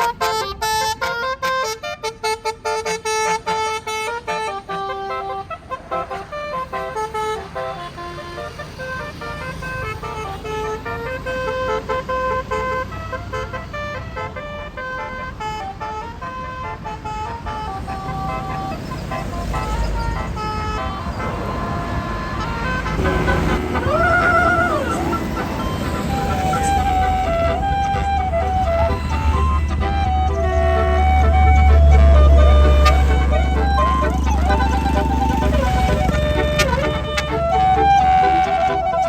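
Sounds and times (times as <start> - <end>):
bus engine rumble: 0.0 - 39.0
multi-tone air horn tune: 0.0 - 39.0.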